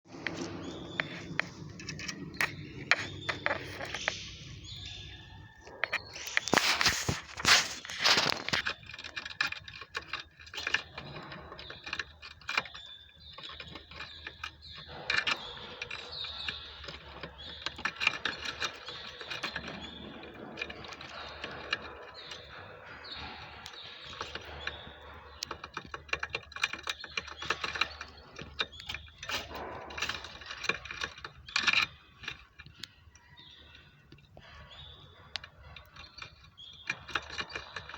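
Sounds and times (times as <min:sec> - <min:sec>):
finches clicking and chittering: 0:00.1 - 0:37.9.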